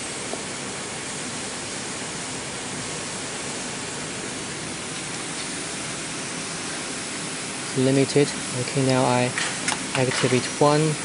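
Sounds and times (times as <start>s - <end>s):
machine hiss: 0.0s - 11.0s.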